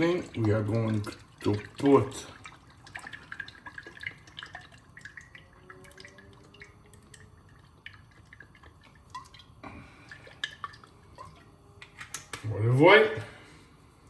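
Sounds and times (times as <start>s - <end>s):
oil pouring into a pan: 0.0s - 11.4s.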